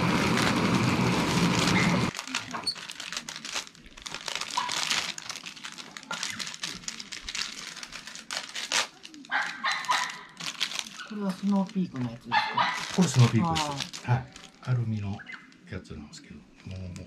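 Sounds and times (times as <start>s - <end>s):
plastic bags crinkling: 0.0s - 15.7s.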